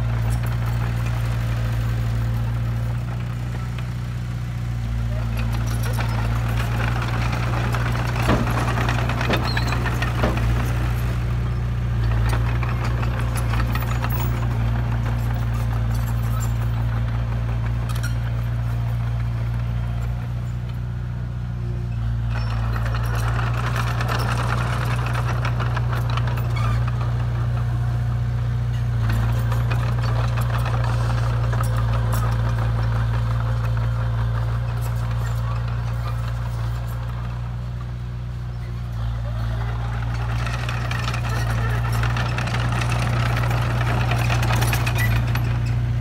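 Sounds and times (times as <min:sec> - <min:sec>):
bulldozer diesel engine droning: 0:00.0 - 0:46.0
rough engine rattle: 0:00.0 - 0:46.0.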